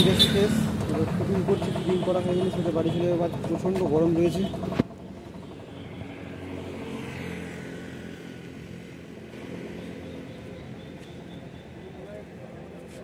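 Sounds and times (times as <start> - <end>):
vehicle engine passing: 0.0 - 12.9
traffic rumble: 0.0 - 13.0.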